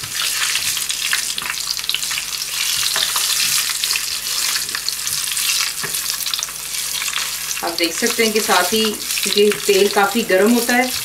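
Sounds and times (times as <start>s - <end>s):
garlic sizzling in hot oil: 0.0s - 11.0s
spoon stirring oil: 0.0s - 11.0s.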